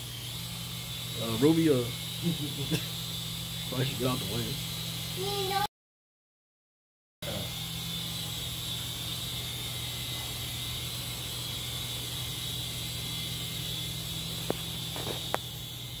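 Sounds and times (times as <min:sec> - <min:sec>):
toy helicopter rotors whirring: 0:00.0 - 0:05.7, 0:07.2 - 0:16.0.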